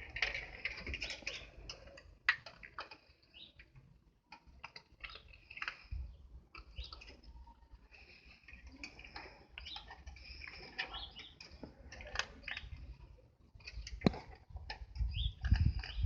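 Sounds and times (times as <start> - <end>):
birds chirping: 2.6 - 16.0.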